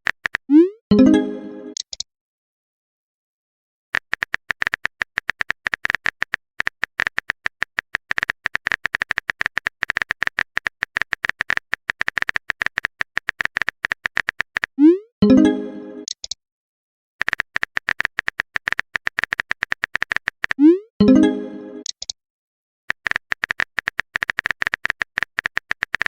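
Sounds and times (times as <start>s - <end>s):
keyboard typing clicks: 0.0s - 0.7s, 1.7s - 2.1s, 4.0s - 16.4s, 17.2s - 22.2s, 22.9s - 26.0s.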